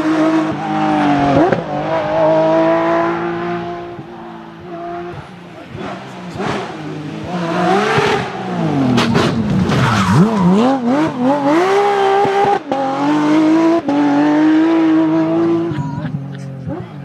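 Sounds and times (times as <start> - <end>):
sports car engine revving: 0.0 - 17.0.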